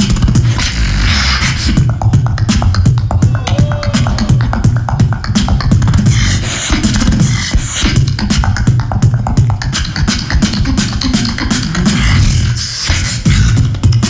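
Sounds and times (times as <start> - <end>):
fast beatboxing through a microphone: 0.0 - 14.0.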